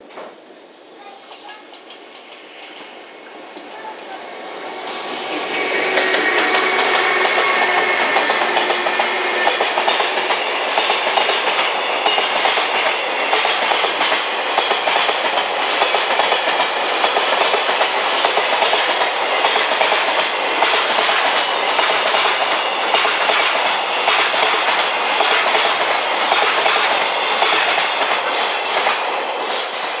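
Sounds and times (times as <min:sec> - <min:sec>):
freight train wheels clattering: 0:01.3 - 0:30.0.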